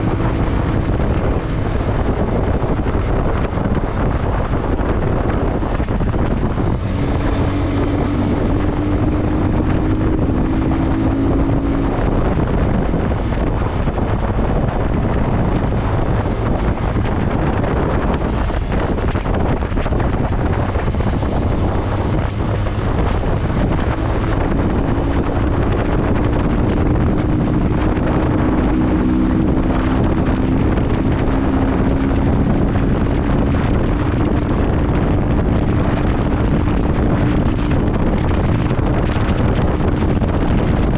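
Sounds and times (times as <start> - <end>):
motorcycle engine drone: 0.0 - 40.9
wind buffeting microphone: 0.0 - 40.9.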